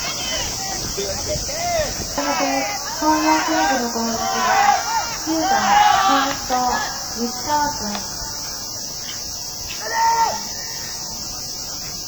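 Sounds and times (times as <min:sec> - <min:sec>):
players shouting: 0:00.0 - 0:11.1
insects droning: 0:00.0 - 0:12.0.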